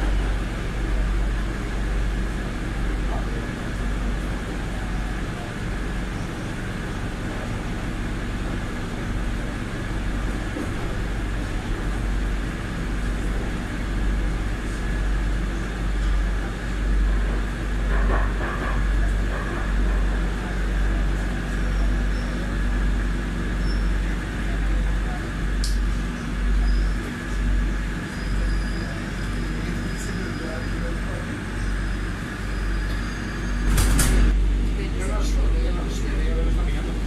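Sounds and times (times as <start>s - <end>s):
metro train rumbling in tunnel: 0.0s - 37.0s
train motor hum: 0.0s - 37.0s.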